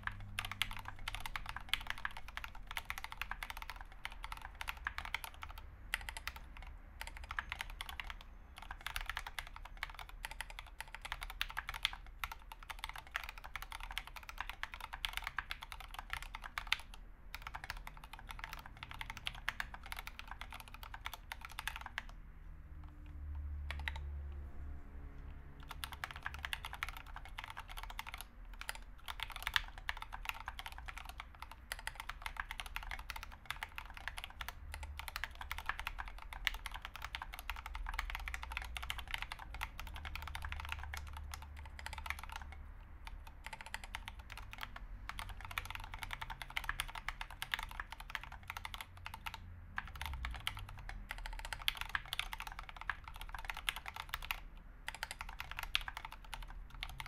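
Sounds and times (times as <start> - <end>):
mechanical keyboard typing: 0.0 - 22.2, 22.8 - 24.5, 25.2 - 57.0.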